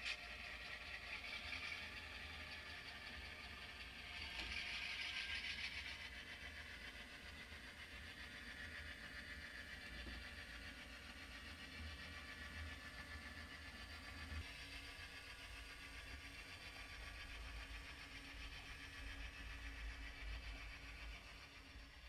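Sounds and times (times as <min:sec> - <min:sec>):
model train rolling on track: 0:00.0 - 0:22.0.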